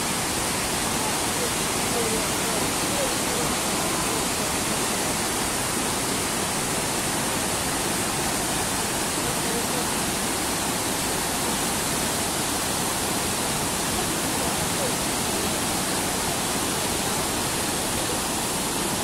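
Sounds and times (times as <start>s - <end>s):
river rapids rushing: 0.0s - 19.0s.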